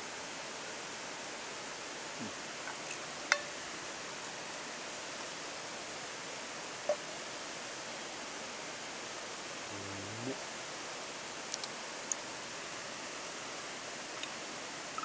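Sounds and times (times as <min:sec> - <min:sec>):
river flowing over stones: 0:00.1 - 0:09.7, 0:10.4 - 0:15.0.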